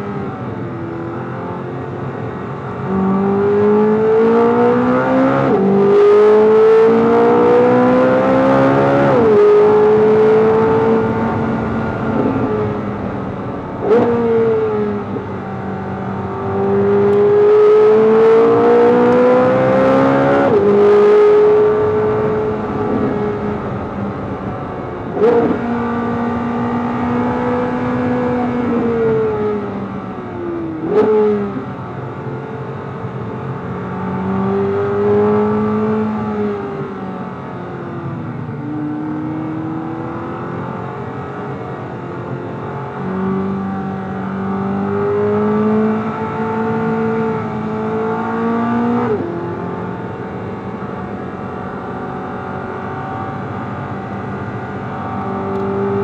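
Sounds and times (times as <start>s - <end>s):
race car engine revving: 0.9s - 30.0s, 32.7s - 37.4s, 38.4s - 56.0s.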